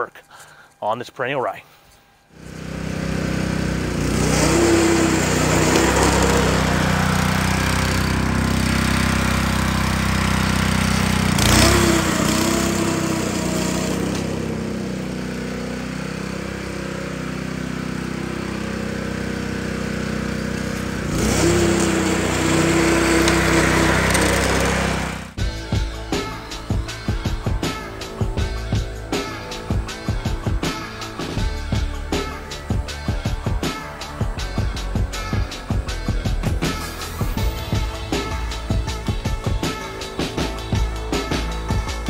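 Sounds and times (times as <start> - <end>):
lawn mower engine running: 2.3 - 32.7, 36.0 - 42.0.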